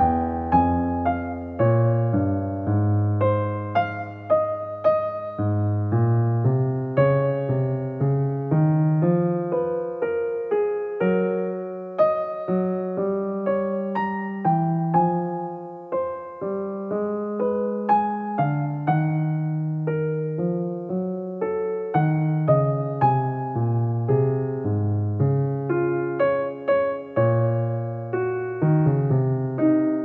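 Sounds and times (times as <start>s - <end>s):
slow keyboard melody: 0.0s - 30.0s.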